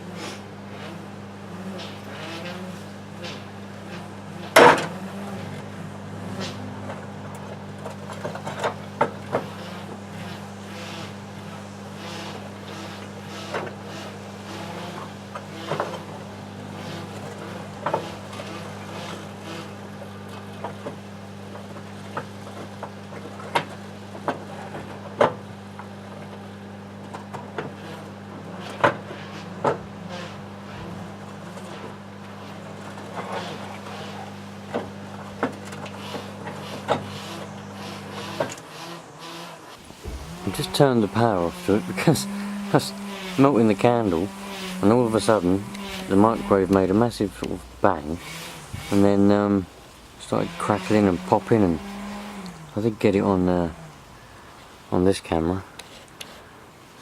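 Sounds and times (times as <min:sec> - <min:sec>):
microwave oven humming: 0:00.0 - 0:38.4, 0:39.8 - 0:54.3.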